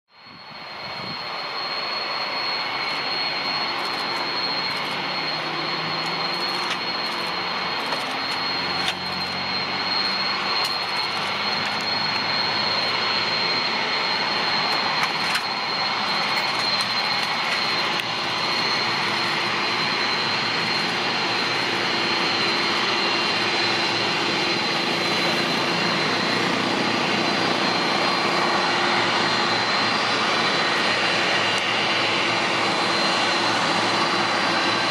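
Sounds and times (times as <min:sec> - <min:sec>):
jet engines taxiing: 0:00.1 - 0:34.9.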